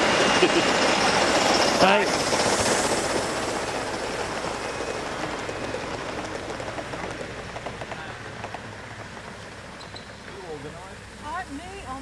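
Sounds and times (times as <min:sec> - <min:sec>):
model train wheels rumbling on track: 0:00.0 - 0:12.0.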